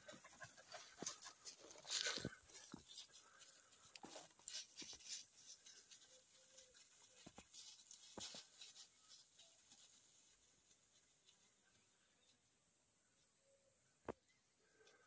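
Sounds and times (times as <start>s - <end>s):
rustles in dry grass: 0.1s - 12.4s.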